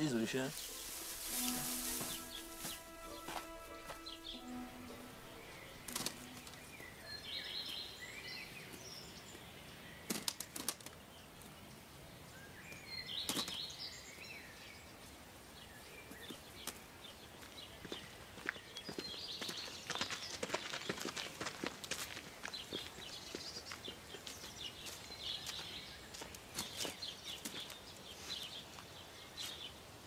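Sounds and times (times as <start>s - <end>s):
birds twittering: 0.0s - 21.1s, 22.2s - 29.8s.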